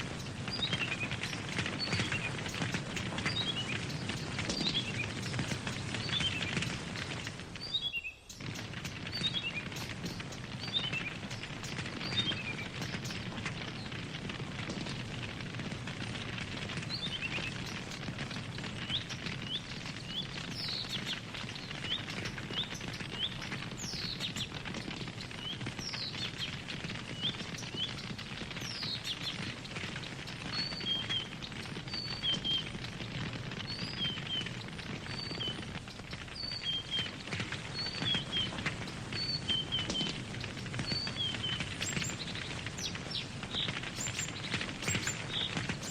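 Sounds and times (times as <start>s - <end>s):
campfire crackling and snapping: 0.0s - 45.9s
small birds chirping: 0.0s - 45.9s.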